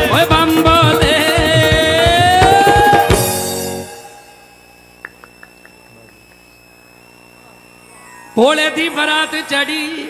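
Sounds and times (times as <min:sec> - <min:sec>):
sound system hum: 0:00.0 - 0:10.0.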